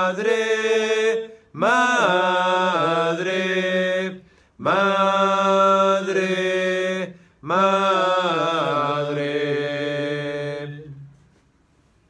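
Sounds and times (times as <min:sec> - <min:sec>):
person singing a hymn: 0:00.0 - 0:11.2.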